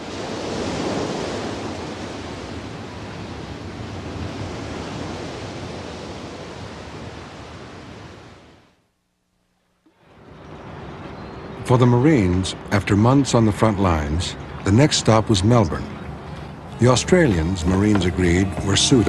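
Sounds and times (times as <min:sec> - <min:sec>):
waves washing: 0:00.0 - 0:08.7, 0:09.9 - 0:19.0.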